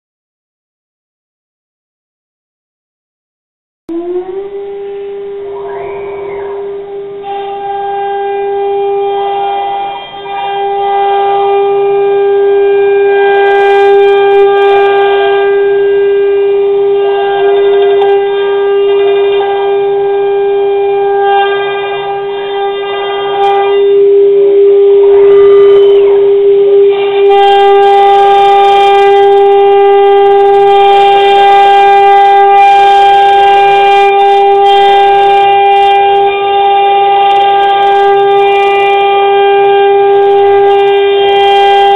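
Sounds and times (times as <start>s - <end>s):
router spindle whine: 3.9s - 41.9s.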